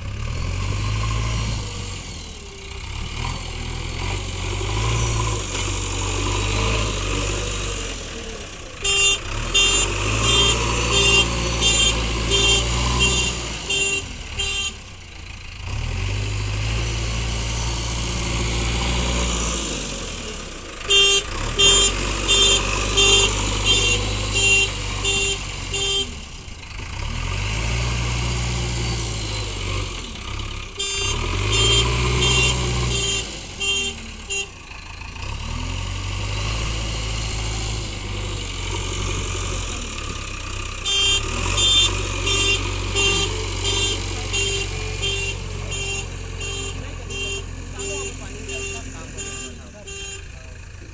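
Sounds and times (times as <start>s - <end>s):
diesel engine running under load: 0.0s - 50.9s.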